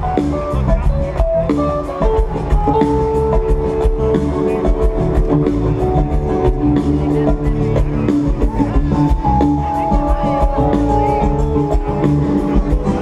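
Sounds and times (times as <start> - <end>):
drum kit beat: 0.0 - 13.0
live band through sound system: 0.0 - 13.0.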